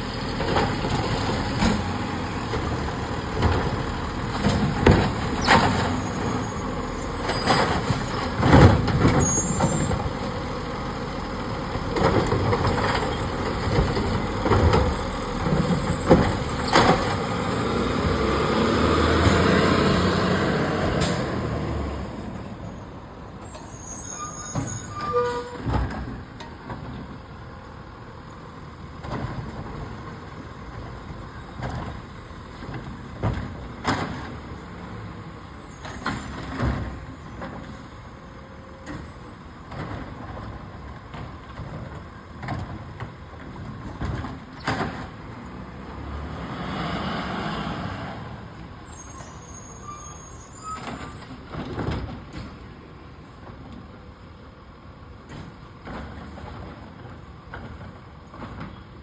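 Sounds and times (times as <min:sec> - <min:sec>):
garbage truck running: 0:00.0 - 0:59.0.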